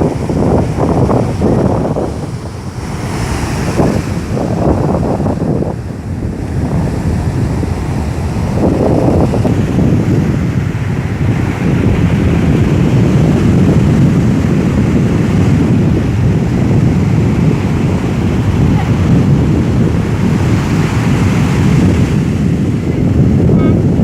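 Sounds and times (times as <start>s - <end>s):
sea waves washing onto shore: 0.0s - 24.0s
wind buffeting microphone: 0.0s - 24.0s.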